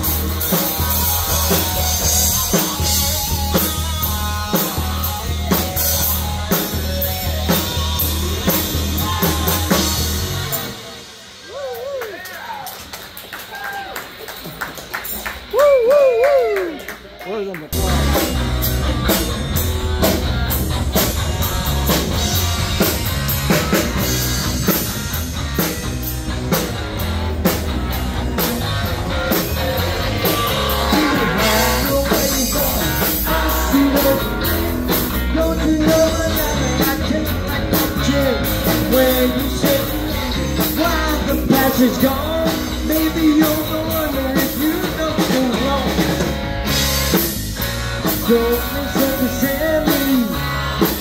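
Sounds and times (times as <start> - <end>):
electric guitar: 0.0 - 51.0
rock band playing: 0.0 - 51.0.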